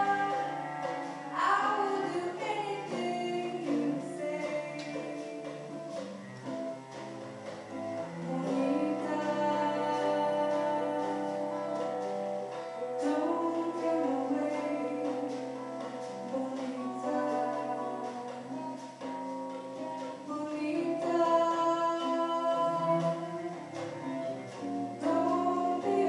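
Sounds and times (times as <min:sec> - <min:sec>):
woman singing: 0:00.0 - 0:06.2, 0:08.1 - 0:12.1, 0:12.8 - 0:26.0
acoustic guitar: 0:00.0 - 0:26.0
cello: 0:00.0 - 0:26.0
light percussion: 0:00.0 - 0:26.0.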